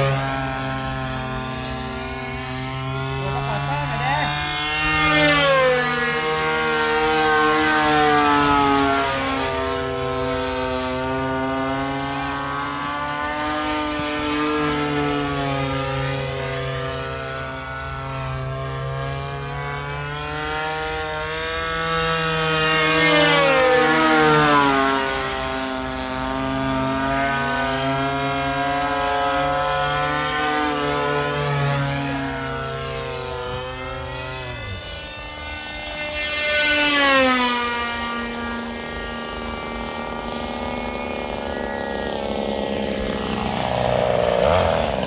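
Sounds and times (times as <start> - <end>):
model airplane engines: 0.0 - 45.0.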